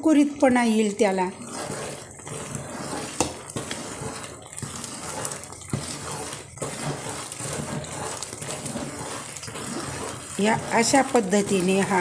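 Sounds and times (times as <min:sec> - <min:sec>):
syrup bubbling and sizzling in pot: 0:00.2 - 0:12.0
powder pouring: 0:01.3 - 0:12.0.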